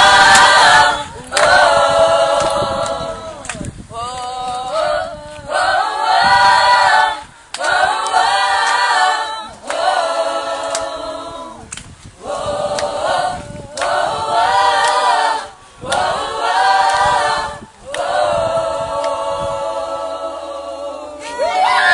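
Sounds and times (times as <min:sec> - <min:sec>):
group singing unaccompanied: 0:00.0 - 0:21.9.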